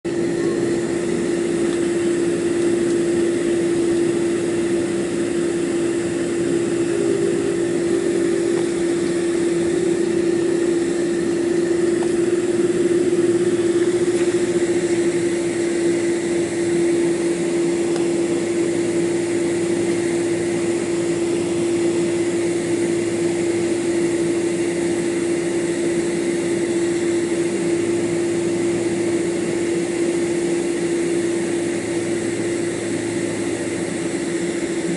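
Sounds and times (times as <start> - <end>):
jet engines droning in cabin: 0.1 - 34.9.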